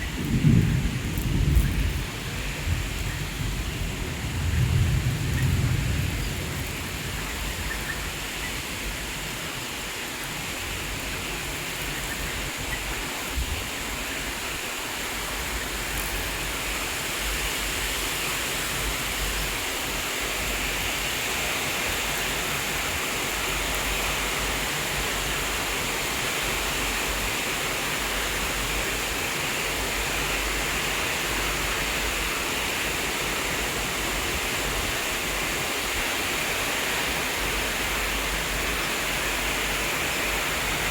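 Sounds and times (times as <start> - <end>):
rain pouring: 0.0 - 40.9.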